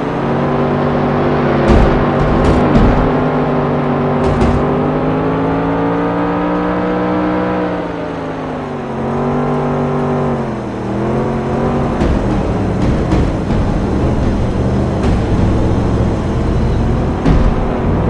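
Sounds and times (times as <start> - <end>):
race car engine running: 0.0 - 18.0.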